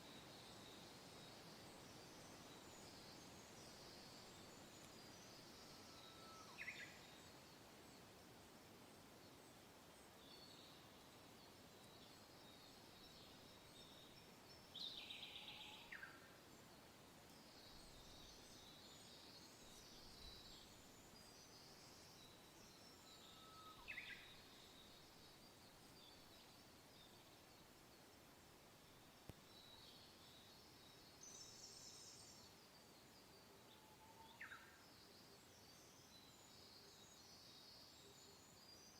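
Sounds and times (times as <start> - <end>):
soft wind hiss: 0.0 - 38.9.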